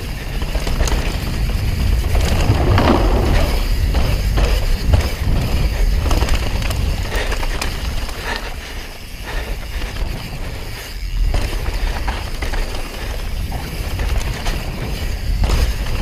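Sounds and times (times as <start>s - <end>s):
bike rattling over bumps: 0.0s - 16.0s
wind and tyres rumbling: 0.0s - 16.0s.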